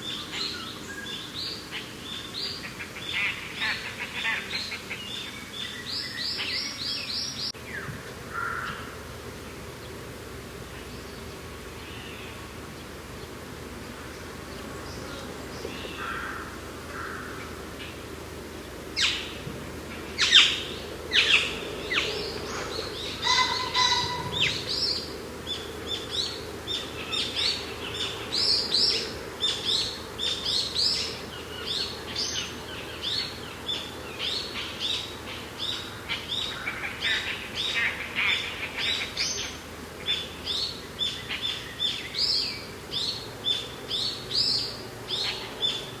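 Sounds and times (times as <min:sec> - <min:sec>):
birds chirping: 0:00.0 - 0:10.0, 0:10.7 - 0:46.0
steady wind: 0:00.0 - 0:46.0.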